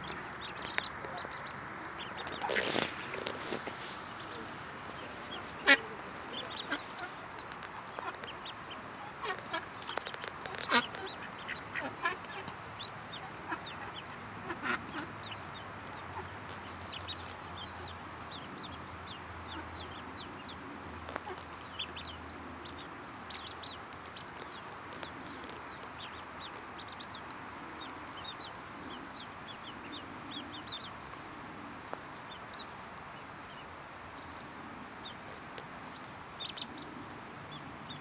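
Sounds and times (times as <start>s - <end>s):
ducklings peeping: 0.0s - 38.0s
steady background hiss: 0.0s - 38.0s.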